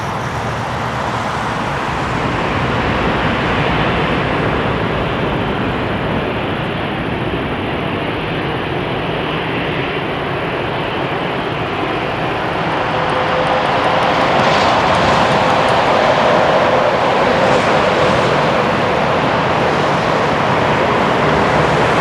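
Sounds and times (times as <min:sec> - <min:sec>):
jet engines running: 0:00.0 - 0:22.0
steady engine whine: 0:00.0 - 0:22.0.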